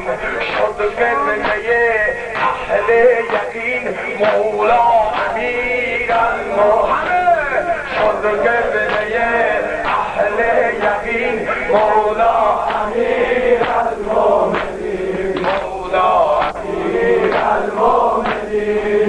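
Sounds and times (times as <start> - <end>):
men chanting devotional song: 0.0 - 19.0
regular sharp beat: 0.0 - 19.0.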